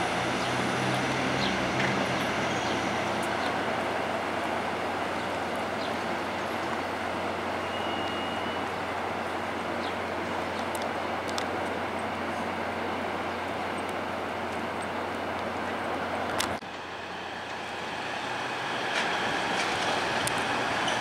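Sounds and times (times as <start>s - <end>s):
city noise: 0.0s - 21.0s
train engine drone: 0.0s - 21.0s.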